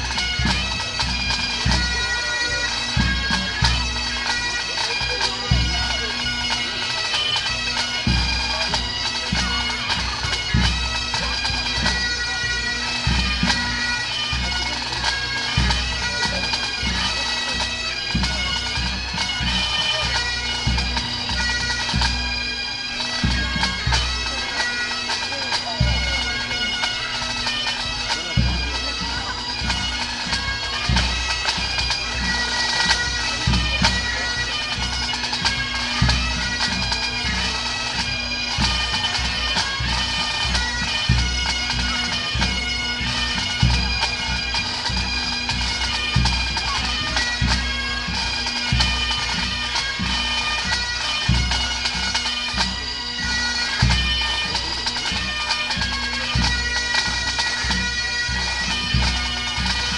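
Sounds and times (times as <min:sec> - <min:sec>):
bagpipe band playing: 0:00.0 - 0:59.9
drum beats: 0:00.0 - 0:59.9.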